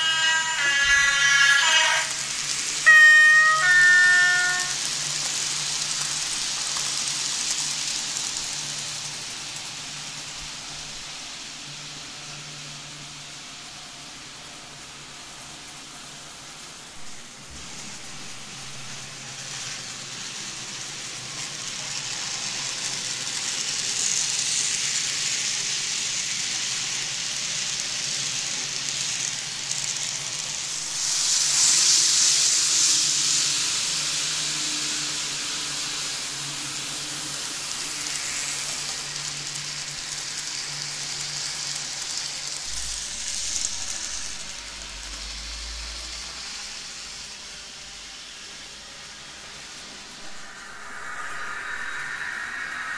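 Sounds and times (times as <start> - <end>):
model trains running on track: 0.0 - 52.9.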